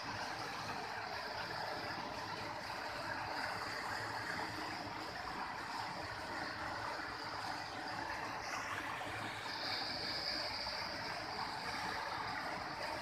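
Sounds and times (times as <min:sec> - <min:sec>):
thin high whine: 0:00.0 - 0:13.0.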